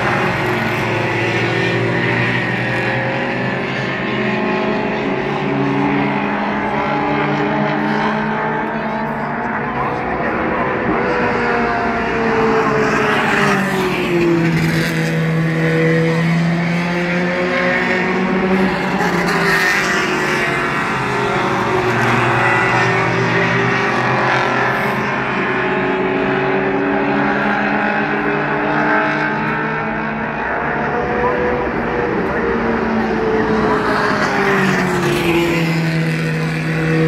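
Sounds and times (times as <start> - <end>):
race car engines passing: 0.0 - 37.0.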